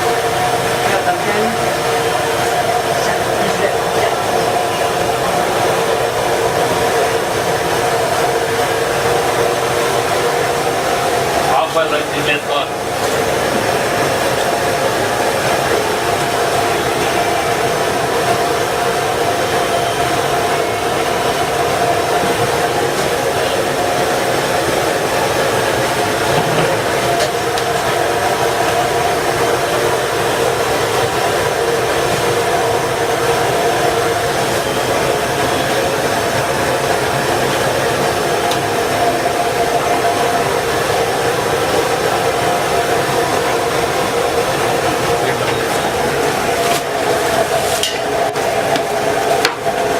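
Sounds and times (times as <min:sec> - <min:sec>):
blower-like rushing noise: 0:00.0 - 0:49.9.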